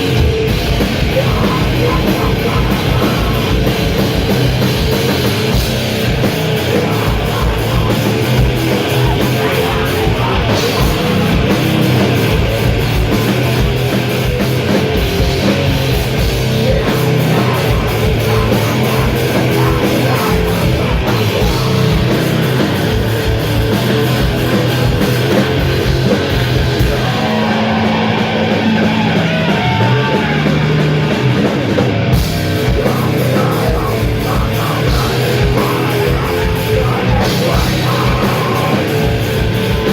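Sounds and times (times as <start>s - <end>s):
held distorted guitar notes: 0.0s - 39.9s
metal band playing live: 0.0s - 39.9s.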